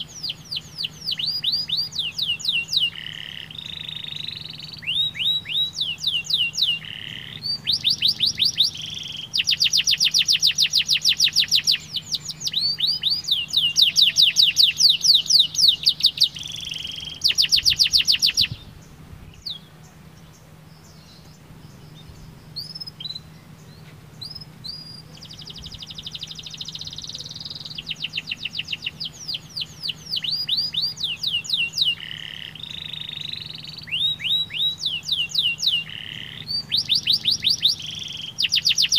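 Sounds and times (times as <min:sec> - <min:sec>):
canary singing trills: 0:00.0 - 0:38.9
faint low hum: 0:00.0 - 0:38.9.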